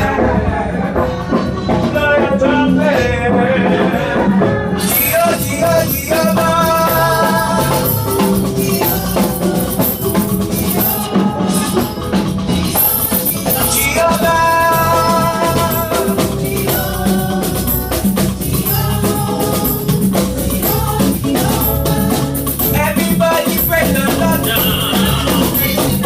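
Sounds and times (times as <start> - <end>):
drums: 0.0 - 26.0
people singing: 0.0 - 26.0
shaker and tambourine percussion: 0.0 - 26.0.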